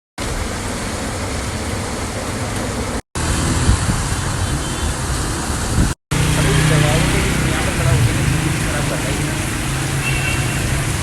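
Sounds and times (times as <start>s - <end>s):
rain falling: 0.2s - 11.0s.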